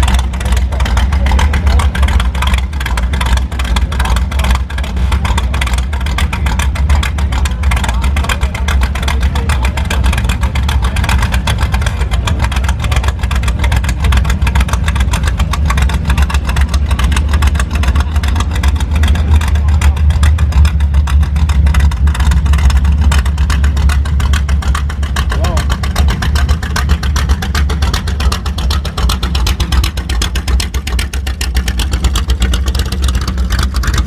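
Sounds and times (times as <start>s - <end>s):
car engine running: 0.0s - 34.0s.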